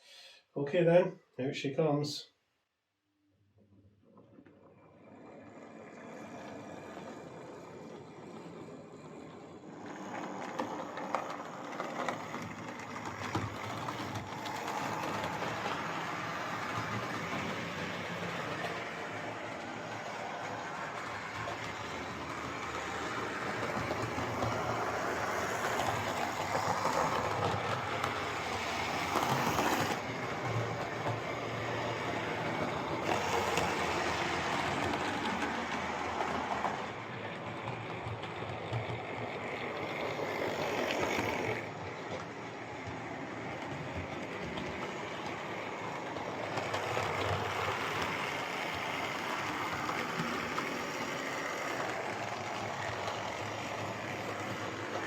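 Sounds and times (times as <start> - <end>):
model train rumbling on rails: 4.9 - 55.0.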